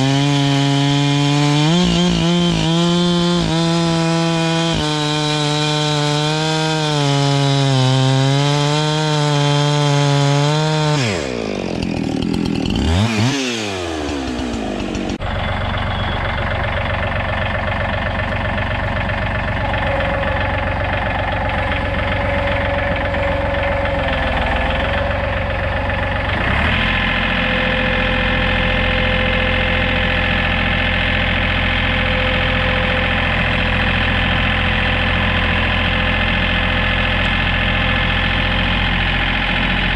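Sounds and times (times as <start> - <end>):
chainsaw cutting log: 0.0 - 15.3, 16.8 - 39.9
diesel tractor engine running: 0.0 - 39.9.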